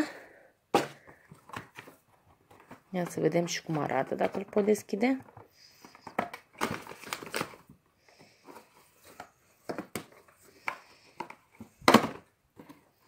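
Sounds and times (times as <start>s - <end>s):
paper and cardboard rustling: 0.8s - 13.0s.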